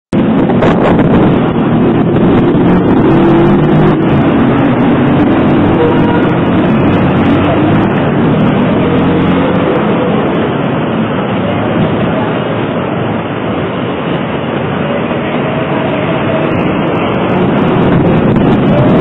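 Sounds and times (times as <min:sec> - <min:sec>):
city street traffic: 0:00.1 - 0:19.0.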